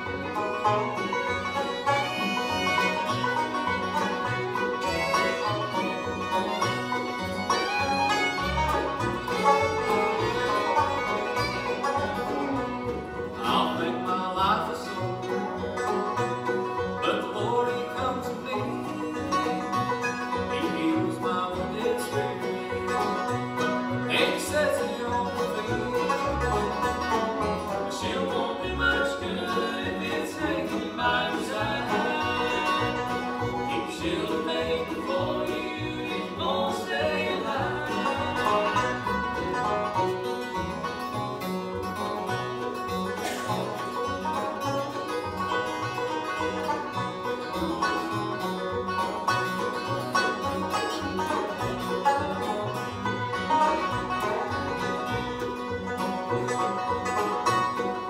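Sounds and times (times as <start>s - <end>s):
acoustic guitar: 0.0s - 58.0s
banjo: 0.0s - 58.0s
dobro: 0.0s - 58.0s
fiddle: 0.0s - 58.0s
mandolin: 0.0s - 58.0s
plucked upright bass: 0.0s - 58.0s.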